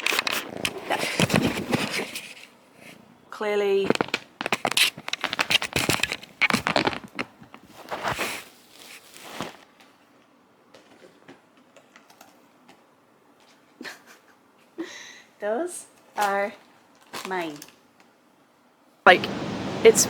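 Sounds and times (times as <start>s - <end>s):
rustling and crinkling: 0.0s - 14.7s, 15.8s - 18.2s.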